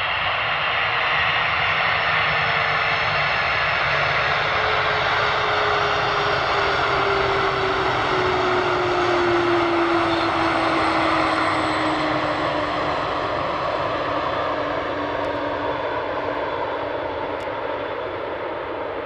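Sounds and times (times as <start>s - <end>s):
jet engines running loud: 0.0s - 19.0s.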